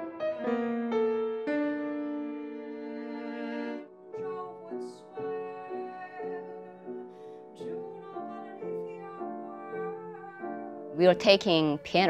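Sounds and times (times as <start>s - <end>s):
piano playing slow melody: 0.0s - 11.8s.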